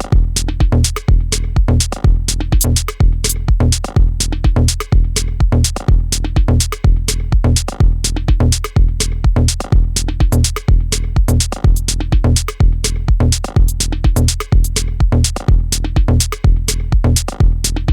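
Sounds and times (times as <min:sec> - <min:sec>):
deep held bass: 0:00.0 - 0:17.9
hi-hat and percussion ticks: 0:00.0 - 0:17.9
kick drum: 0:00.0 - 0:17.9.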